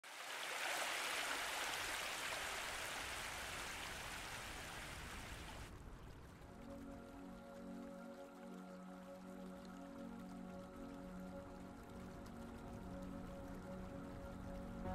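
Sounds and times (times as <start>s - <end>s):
stream rushing over boulders: 0.0s - 14.9s.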